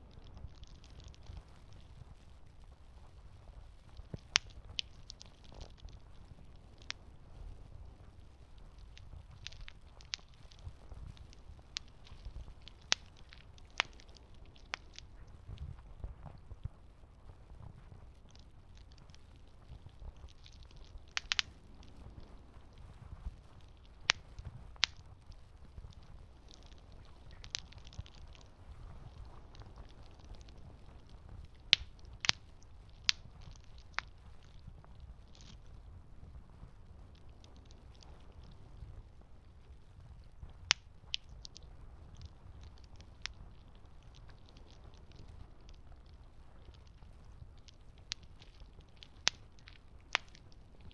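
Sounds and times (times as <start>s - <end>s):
campfire crackling: 0.0s - 50.9s
sharp pops from fire: 0.1s - 50.9s.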